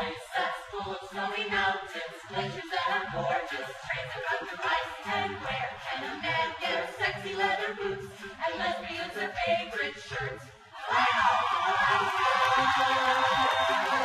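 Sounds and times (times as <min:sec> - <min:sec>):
choir singing a cappella: 0:00.0 - 0:14.0.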